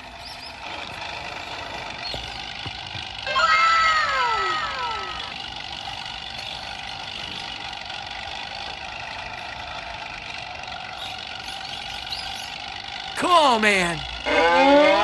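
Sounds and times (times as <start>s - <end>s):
falling whine: 0.0s - 15.0s
vehicle engine running: 0.0s - 15.0s.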